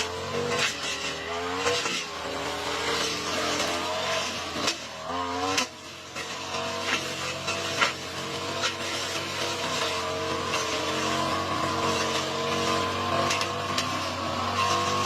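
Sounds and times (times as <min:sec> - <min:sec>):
lawn mower cutting grass: 0:00.0 - 0:15.0.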